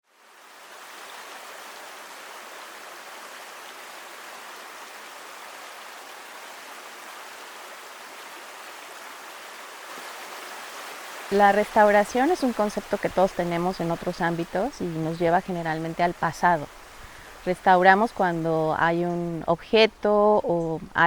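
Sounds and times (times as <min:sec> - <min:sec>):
flowing water rushing: 0:00.1 - 0:21.0.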